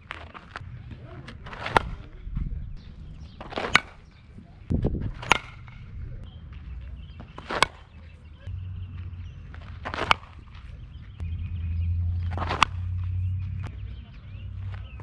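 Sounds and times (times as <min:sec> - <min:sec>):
softball bat hitting balls: 0:00.0 - 0:15.0.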